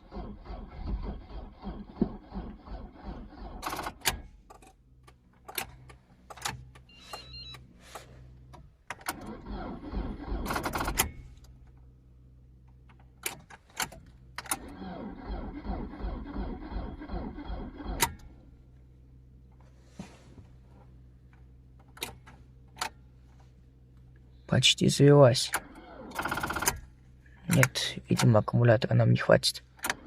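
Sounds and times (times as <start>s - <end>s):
car engine cranking: 0.0s - 12.0s, 12.6s - 24.2s, 24.8s - 28.6s, 29.6s - 30.0s.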